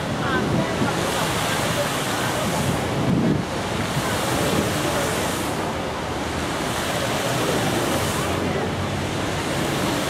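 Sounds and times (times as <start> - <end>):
fountain water splashing: 0.0 - 10.0
wind buffeting microphone: 0.0 - 10.0.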